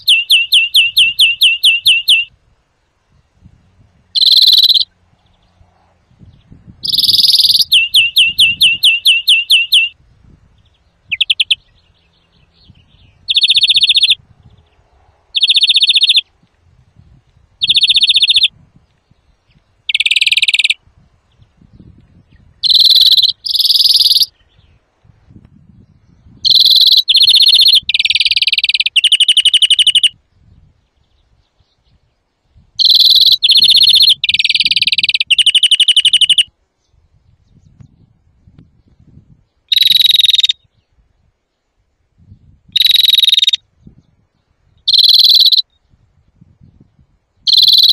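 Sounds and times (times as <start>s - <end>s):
greenfinch song trills: 0.0s - 2.4s, 4.2s - 5.6s, 6.2s - 16.4s, 17.6s - 24.9s, 25.8s - 32.2s, 32.8s - 38.1s, 38.8s - 41.0s, 42.4s - 47.9s.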